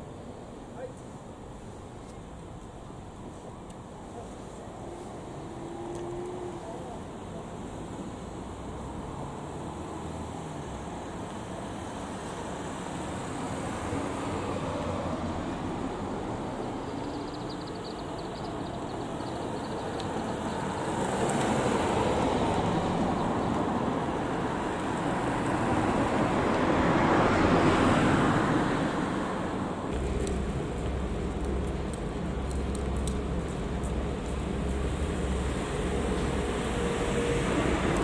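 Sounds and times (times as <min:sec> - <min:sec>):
vehicles passing: 0:03.2 - 0:38.0.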